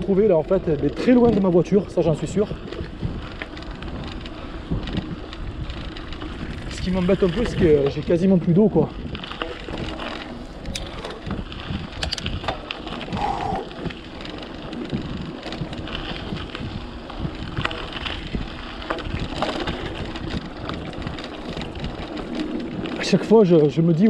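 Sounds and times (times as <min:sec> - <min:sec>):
wind on microphone: 0:00.0 - 0:23.2
bike clicking and rattling: 0:00.0 - 0:24.0
bike tyres on forest track: 0:00.0 - 0:24.0.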